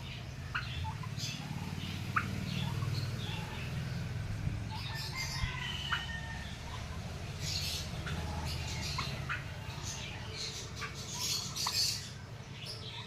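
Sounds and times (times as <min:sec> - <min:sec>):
turkeys calling: 0:00.0 - 0:13.0.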